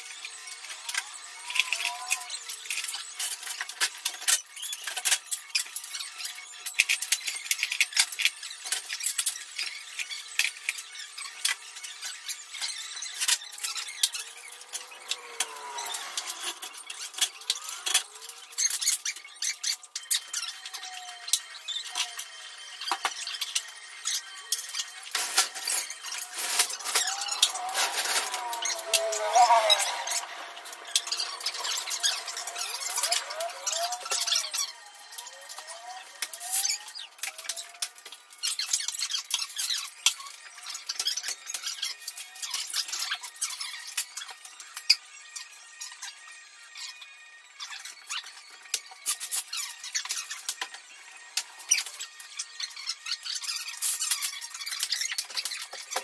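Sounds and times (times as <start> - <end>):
garage door squeaks: 0.3 - 46.2.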